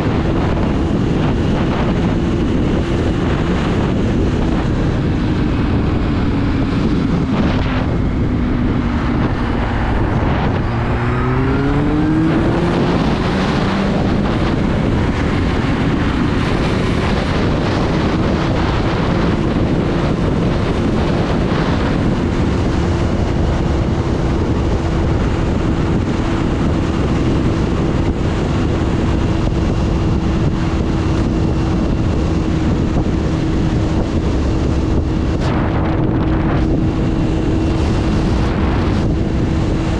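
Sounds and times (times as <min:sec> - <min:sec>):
motorcycle engine: 0:00.0 - 0:39.9
wind noise on microphone: 0:00.0 - 0:39.9.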